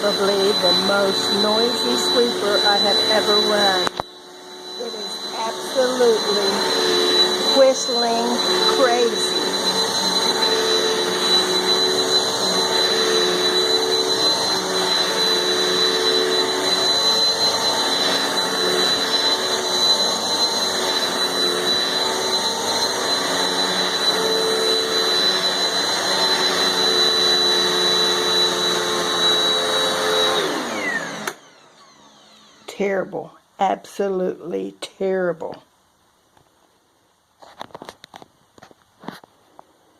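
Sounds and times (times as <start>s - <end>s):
vacuum cleaner running: 0.0s - 33.4s.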